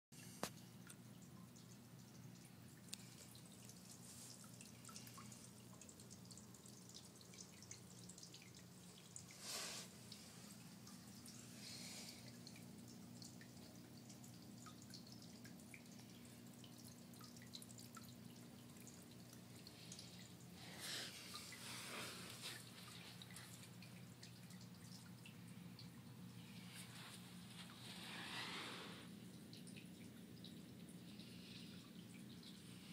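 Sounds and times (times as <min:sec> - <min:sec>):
water drips: 0:00.2 - 0:32.9.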